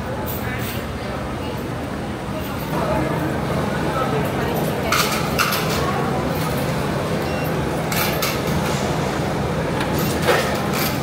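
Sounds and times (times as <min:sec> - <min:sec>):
food court background din: 0:00.0 - 0:11.0.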